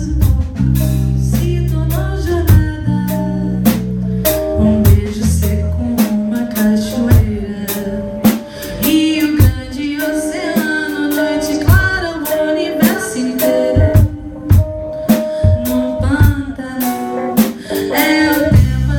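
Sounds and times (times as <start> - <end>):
drum kit beat: 0.0 - 18.9
electric bass: 0.0 - 18.9
electric guitars: 0.0 - 18.9.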